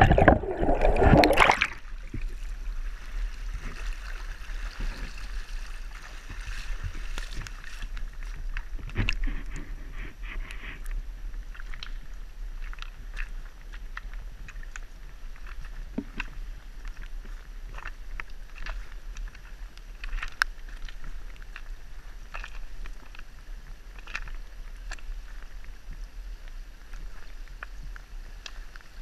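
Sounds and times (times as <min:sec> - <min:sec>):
creek water over gravel: 0:00.0 - 0:29.0.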